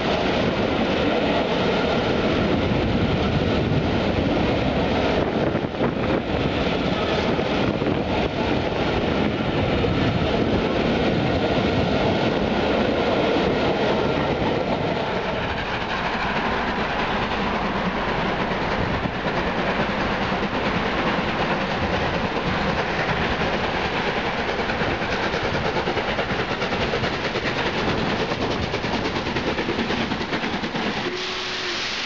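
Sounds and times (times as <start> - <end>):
steam locomotive exhaust beats: 0.0 - 32.0
train coaches rumbling over rails: 0.0 - 32.0.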